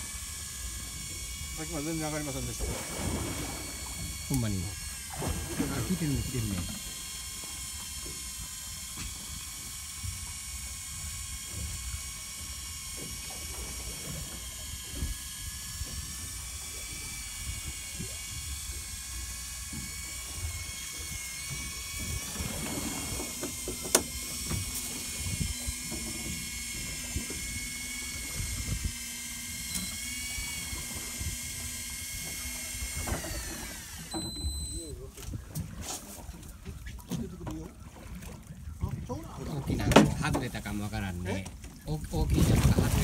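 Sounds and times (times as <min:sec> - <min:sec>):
fishing reel motor whining: 0:00.0 - 0:37.1
low steady hum: 0:00.0 - 0:43.0.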